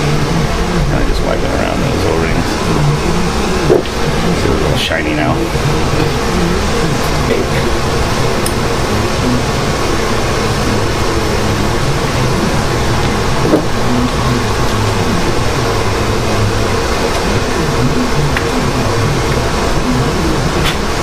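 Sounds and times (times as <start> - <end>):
fan rushing air: 0.0 - 21.0.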